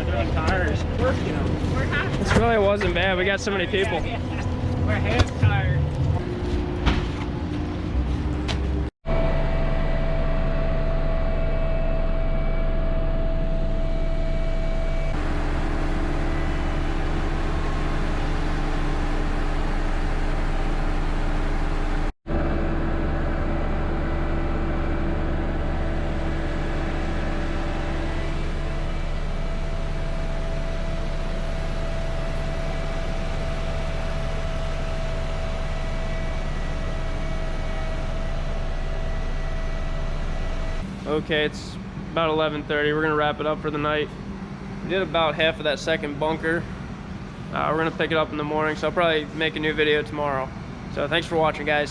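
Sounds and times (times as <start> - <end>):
higher whining tones: 0.0 - 51.7
diesel farm machinery drone: 0.0 - 51.9.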